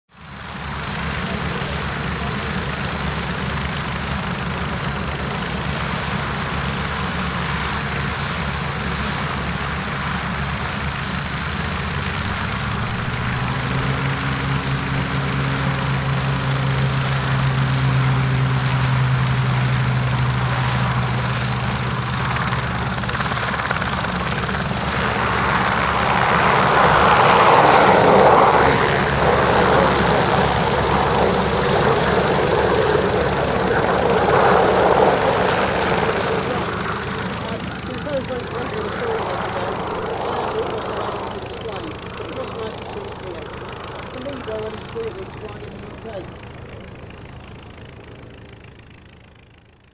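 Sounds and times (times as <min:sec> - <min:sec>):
helicopter turbine and rotor: 0:00.1 - 0:49.9.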